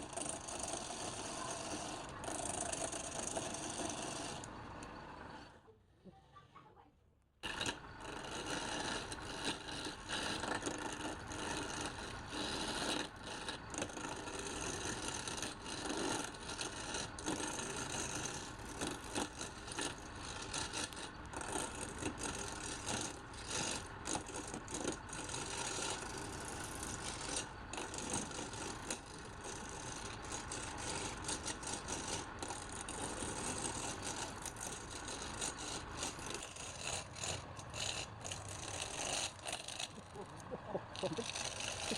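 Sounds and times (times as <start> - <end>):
wood lathe cutting wood: 0.0 - 5.6, 7.4 - 41.9.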